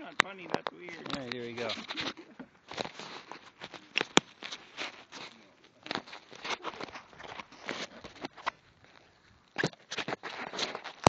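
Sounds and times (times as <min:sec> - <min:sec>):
rustling and scraping on microphone: 0:00.0 - 0:11.0.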